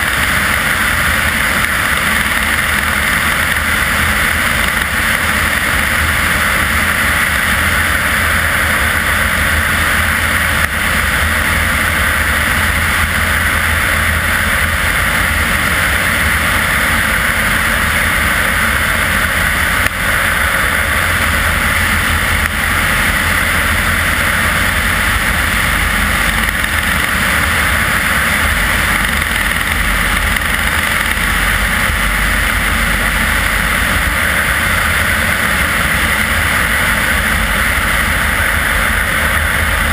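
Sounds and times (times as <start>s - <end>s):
propeller aircraft engine drone: 0.0s - 39.9s
rushing airflow: 0.0s - 39.9s.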